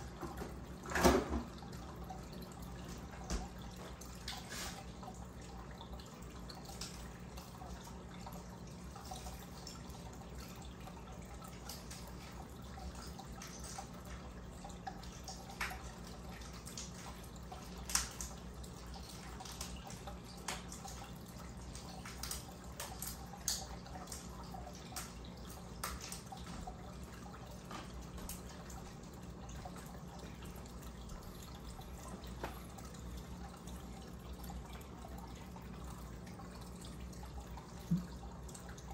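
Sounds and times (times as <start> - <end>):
aquarium air stone bubbling: 0.0 - 38.9
low equipment hum: 0.0 - 38.9.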